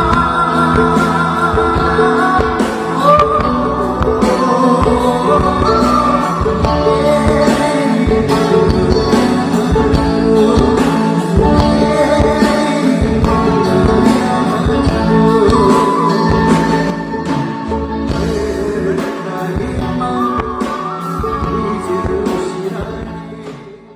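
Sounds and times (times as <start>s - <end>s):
guitar: 0.0s - 23.9s
person singing: 0.0s - 23.9s
steady drum beat: 0.0s - 23.9s.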